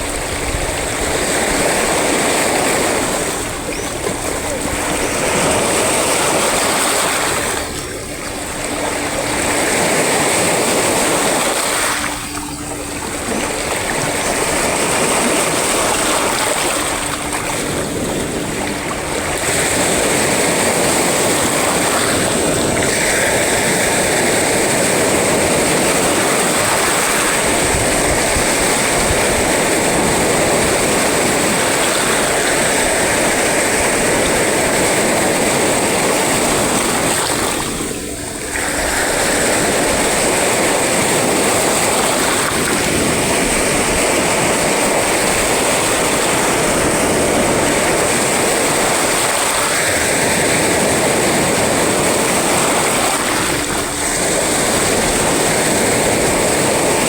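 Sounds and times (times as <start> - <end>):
sea waves breaking ashore: 0.0 - 57.0.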